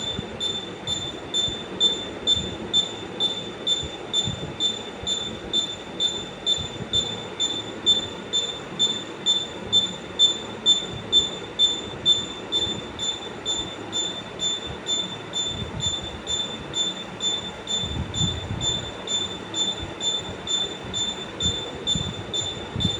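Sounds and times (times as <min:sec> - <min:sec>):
steady low rumbling noise: 0:00.0 - 0:22.9.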